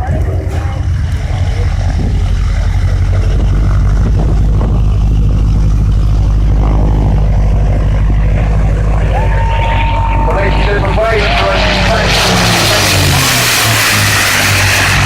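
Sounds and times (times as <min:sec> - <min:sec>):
piston aircraft engine drone: 0:00.0 - 0:15.0.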